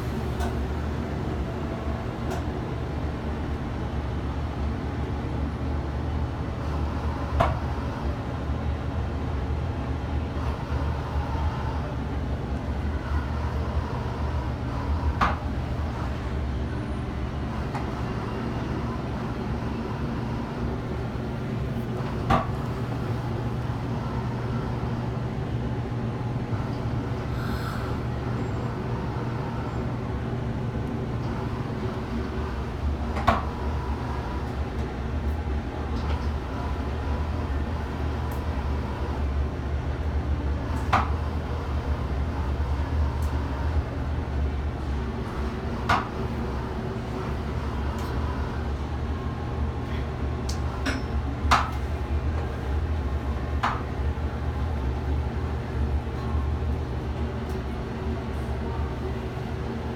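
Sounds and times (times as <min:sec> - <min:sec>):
low mechanical hum: 0:00.0 - 0:59.9
low rumble of ferris wheel: 0:00.0 - 0:59.9.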